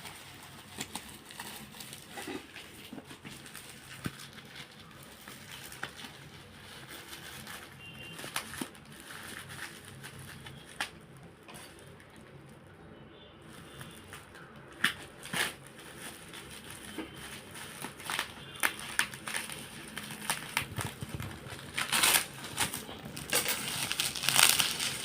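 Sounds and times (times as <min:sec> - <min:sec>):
plastic packaging crinkling: 0:00.0 - 0:12.7, 0:13.4 - 0:25.0.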